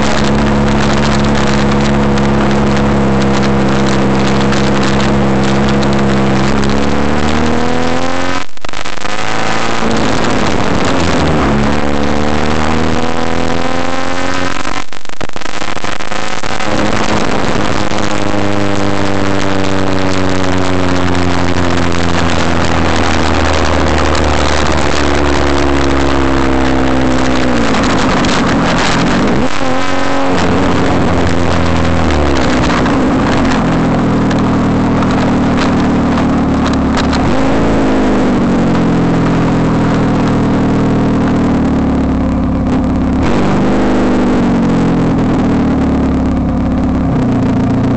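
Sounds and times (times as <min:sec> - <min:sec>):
car engine accelerating: 0:00.0 - 0:47.9.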